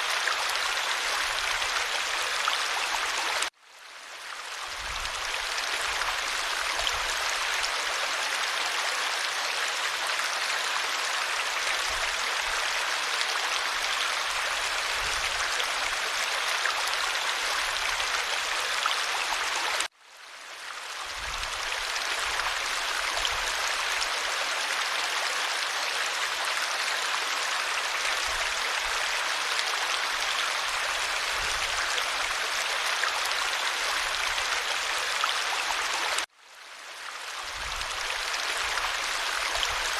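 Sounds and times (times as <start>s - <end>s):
stream babbling over stones: 0.0s - 3.5s, 4.2s - 19.9s, 20.9s - 39.9s.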